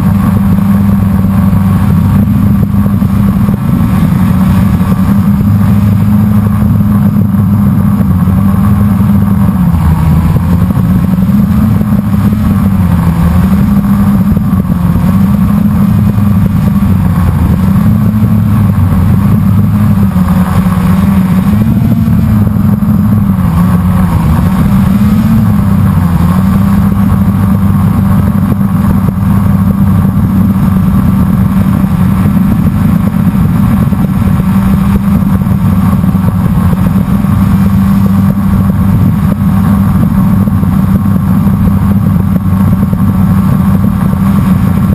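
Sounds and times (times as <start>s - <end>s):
drone motors and propellers humming: 0.0s - 44.9s.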